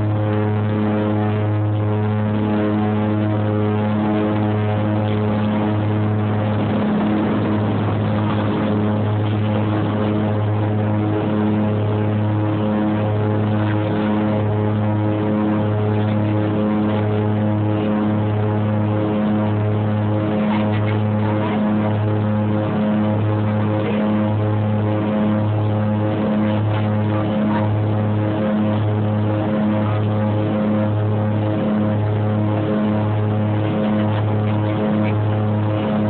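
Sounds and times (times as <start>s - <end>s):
propeller drone: 0.0s - 36.0s
rough rushing noise: 3.1s - 36.0s.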